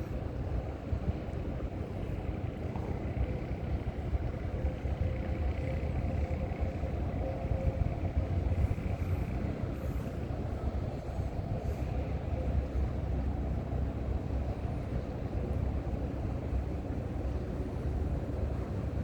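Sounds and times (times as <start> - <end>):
low rumbling noise: 0.0 - 15.4.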